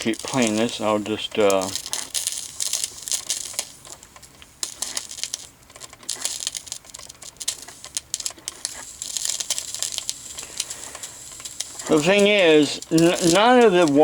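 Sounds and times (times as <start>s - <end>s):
drip coffee maker sputtering: 0.0s - 14.0s.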